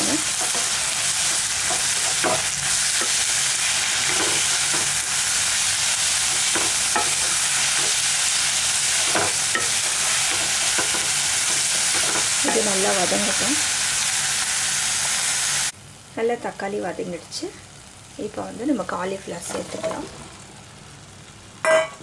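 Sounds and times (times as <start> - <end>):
onions frying in oil: 0.0 - 22.0.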